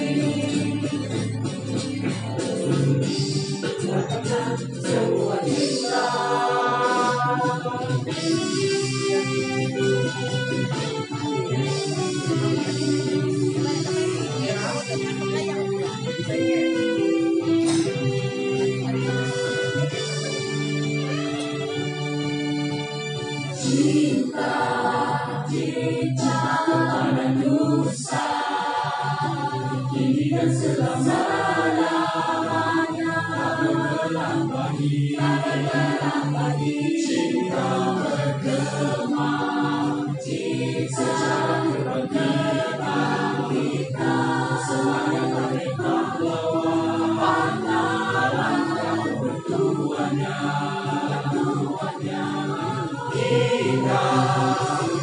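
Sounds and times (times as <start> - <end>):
choir singing: 0.0 - 10.0, 11.6 - 15.5, 23.5 - 55.0
instrumental backing: 0.0 - 55.0.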